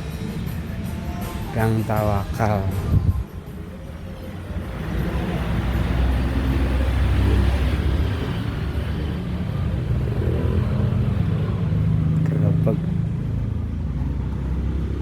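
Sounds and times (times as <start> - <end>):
road and traffic noise: 0.0 - 15.0.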